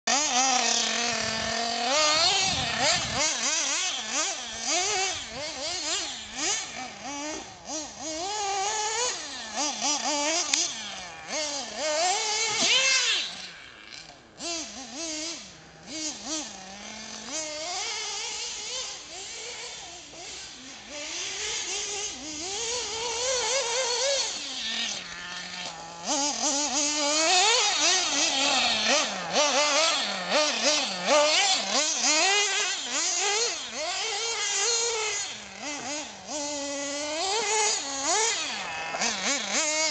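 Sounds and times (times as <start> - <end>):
small nitro engine revving: 0.1 - 39.9.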